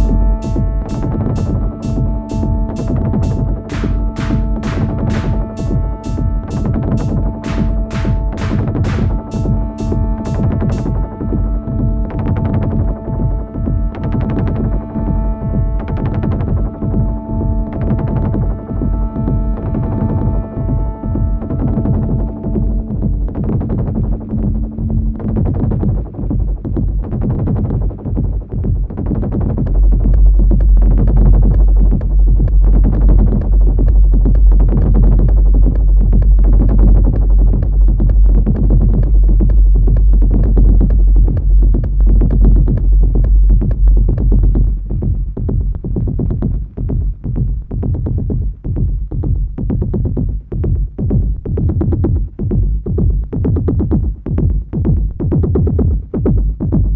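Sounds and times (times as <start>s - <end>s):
deep synth bass line: 0.0s - 56.9s
techno beat: 0.0s - 56.9s.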